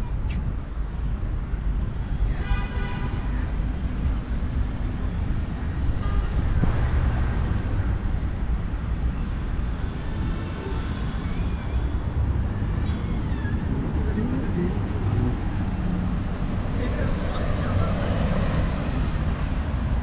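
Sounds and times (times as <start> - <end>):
rumble of passing cars: 0.0 - 20.0.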